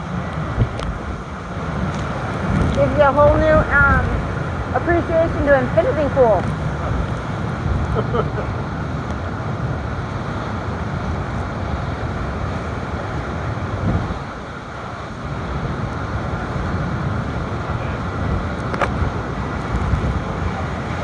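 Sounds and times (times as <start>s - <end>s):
storm surf rushing: 0.0s - 21.0s
wind buffeting microphone: 0.0s - 21.0s.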